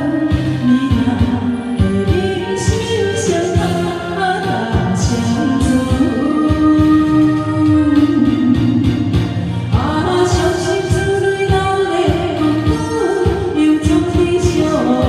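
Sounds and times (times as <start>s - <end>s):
pop song with beat: 0.0s - 15.0s.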